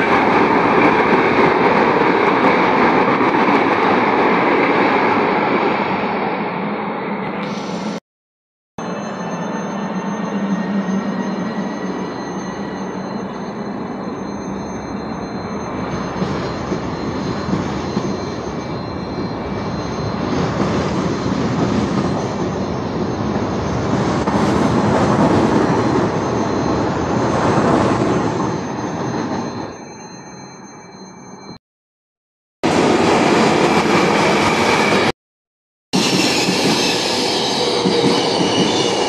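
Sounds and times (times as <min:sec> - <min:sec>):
electric train passing: 0:00.0 - 0:08.0, 0:08.8 - 0:31.5, 0:32.6 - 0:35.1, 0:36.0 - 0:39.0.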